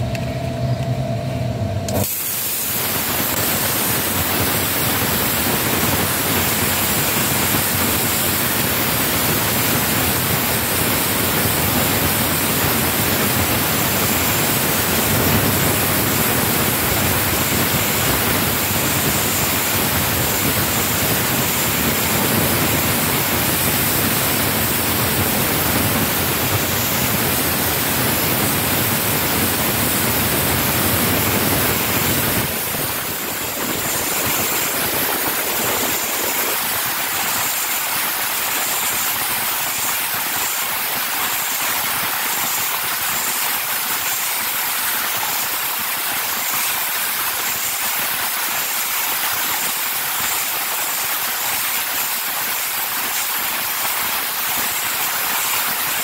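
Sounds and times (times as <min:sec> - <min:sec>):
blowtorch hissing: 0:01.8 - 0:56.0.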